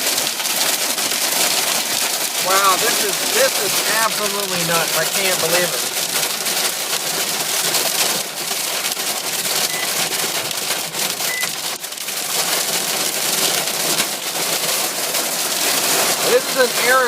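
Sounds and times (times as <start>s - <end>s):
hail and rain on car roof: 0.0s - 17.0s.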